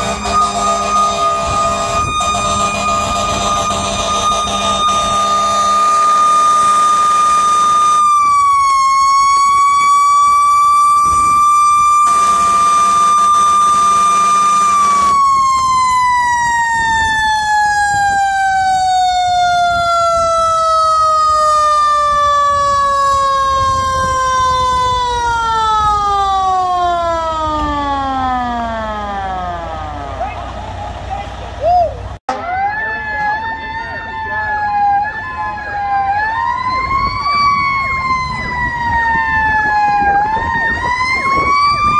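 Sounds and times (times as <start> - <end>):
fire engine siren winding down: 0.0 - 41.9.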